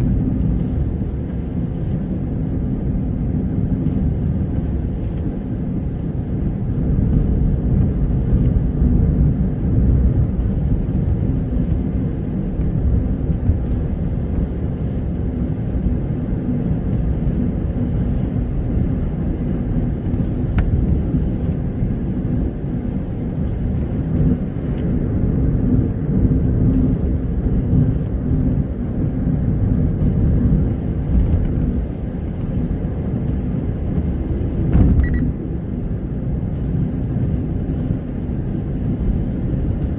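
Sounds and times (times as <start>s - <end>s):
car tyres on wet road: 0.0s - 39.9s.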